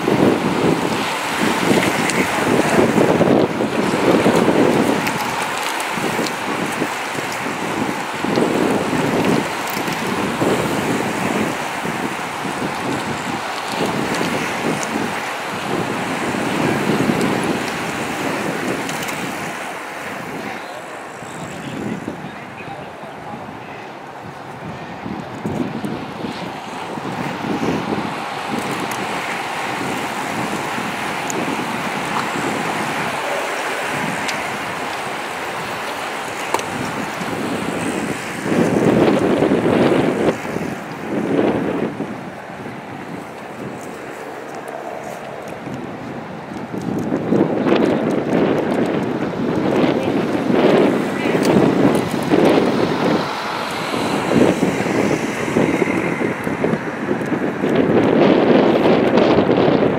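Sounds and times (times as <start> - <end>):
bicycles passing on tarmac: 0.0 - 59.9
wind buffeting microphone: 0.0 - 59.9.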